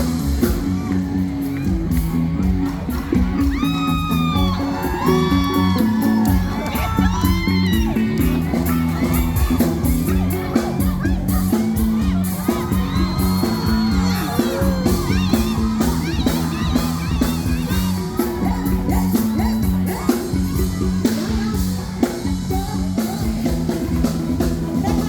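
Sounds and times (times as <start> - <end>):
crowd singing and shouting: 0.0 - 25.0
live music with steady beat: 0.0 - 25.0.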